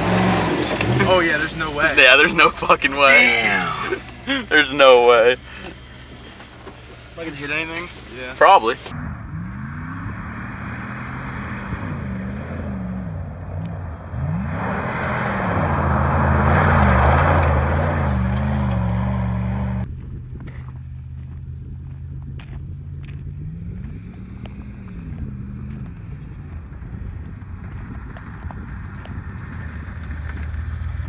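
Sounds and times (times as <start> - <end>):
engine revving: 0.0 - 31.0.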